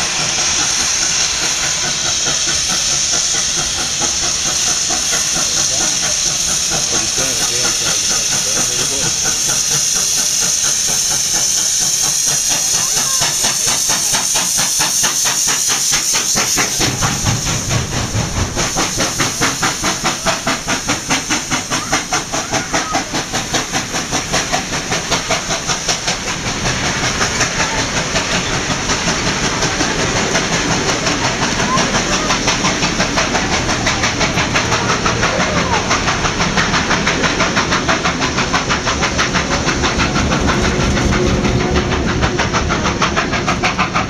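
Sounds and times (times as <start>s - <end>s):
steam hissing: 0.0s - 44.0s
steam locomotive exhaust beat: 0.0s - 44.0s
train rumbling overhead: 0.0s - 44.0s.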